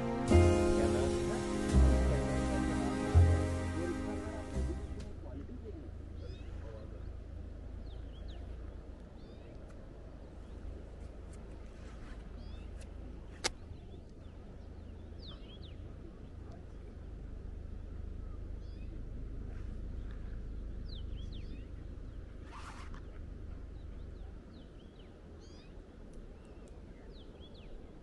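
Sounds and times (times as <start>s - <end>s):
birds chirping: 0.0s - 5.2s, 6.1s - 10.9s, 12.3s - 27.9s
steady low rumble: 0.0s - 28.0s.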